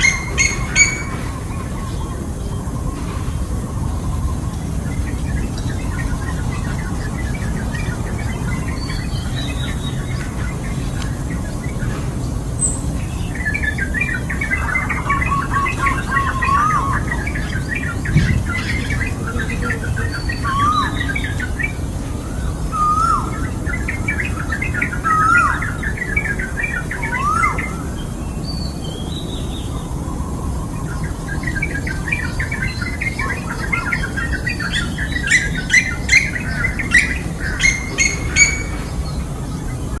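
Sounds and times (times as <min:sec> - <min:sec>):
birds chattering chirps: 0:00.0 - 0:40.0.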